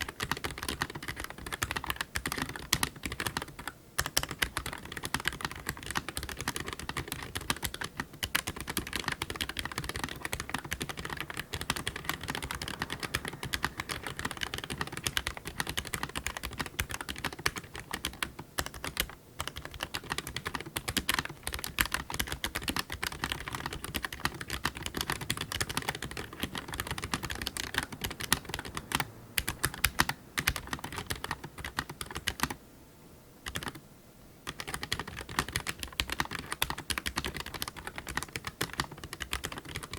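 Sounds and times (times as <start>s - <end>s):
mechanical keyboard typing: 0.0s - 32.6s, 33.4s - 33.8s, 34.4s - 39.9s.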